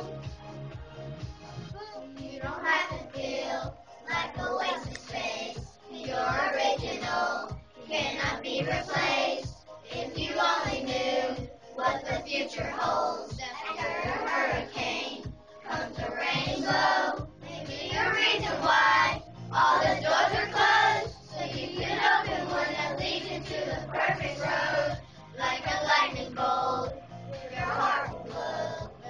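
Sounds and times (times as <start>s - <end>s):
pop backing track: 0.0s - 29.0s
children singing: 2.3s - 29.0s.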